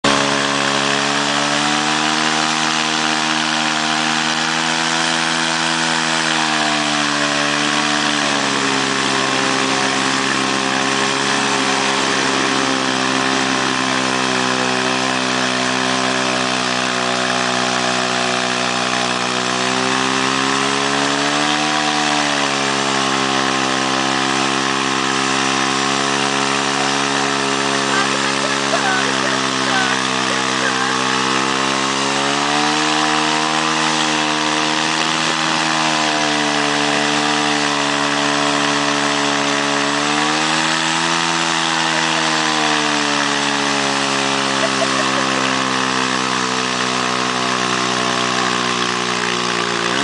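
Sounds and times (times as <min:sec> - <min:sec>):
off-road vehicle engine running: 0:00.0 - 0:50.0.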